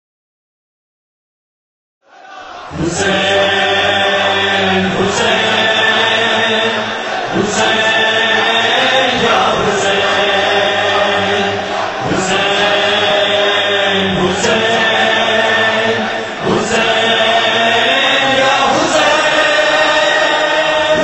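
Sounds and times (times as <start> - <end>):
chorus chanting long notes: 2.1 - 21.0.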